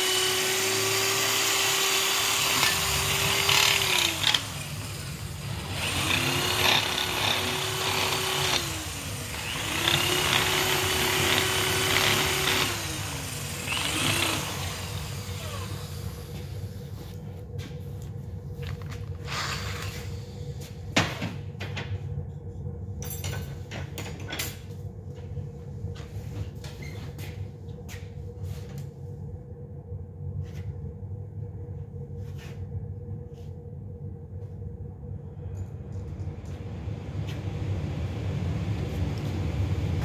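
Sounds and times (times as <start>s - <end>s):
workshop hum: 0.0s - 40.0s.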